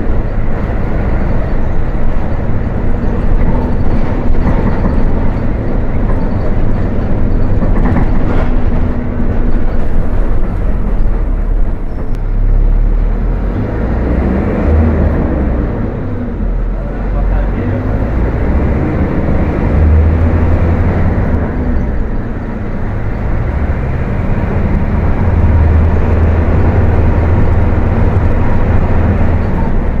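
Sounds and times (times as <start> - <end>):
bus diesel engine running: 0.0 - 30.0
road rumble: 0.0 - 30.0.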